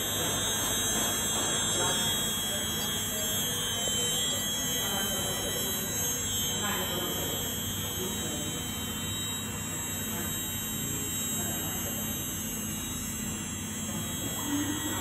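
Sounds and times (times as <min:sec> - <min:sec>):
stepper motors whining and humming: 0:00.0 - 0:15.0.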